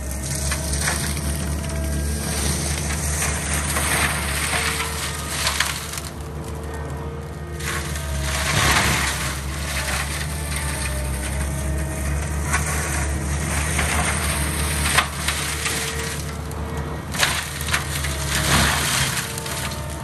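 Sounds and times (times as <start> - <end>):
loader engine drone: 0.0 - 20.0
mulcher grinding brush: 0.0 - 20.0
wood cracking and splintering: 0.0 - 20.0.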